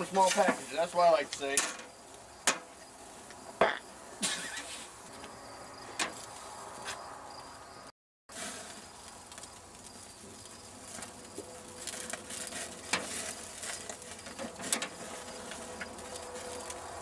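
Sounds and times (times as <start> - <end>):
meat patty sizzling on grill: 0.0 - 5.0, 8.3 - 17.0.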